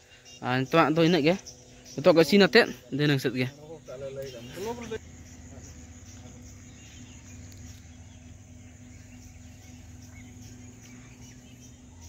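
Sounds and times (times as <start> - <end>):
bird chirp: 0.0 - 12.0
insects calling: 0.0 - 12.0
steady low hum: 0.0 - 12.0.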